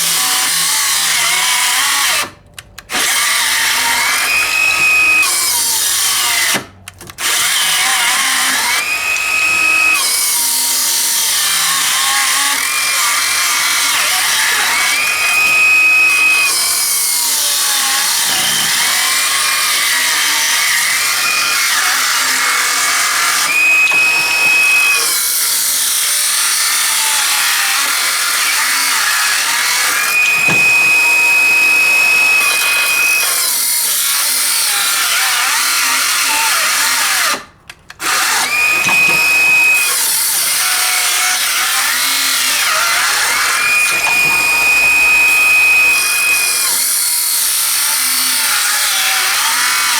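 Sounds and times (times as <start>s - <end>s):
circular saw cutting wood: 0.0s - 49.9s.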